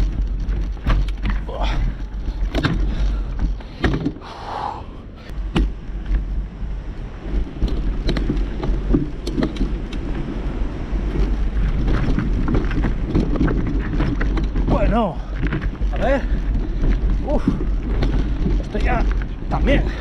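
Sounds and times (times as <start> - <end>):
mountain bike rattling over rocks: 0.0 - 4.3, 5.3 - 20.0
wind rumble on microphone: 0.0 - 20.0.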